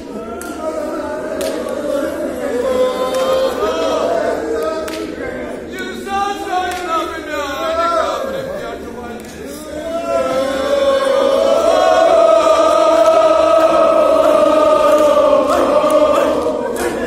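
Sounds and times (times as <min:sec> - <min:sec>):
men chanting together: 0:00.0 - 0:08.9, 0:09.6 - 0:17.0.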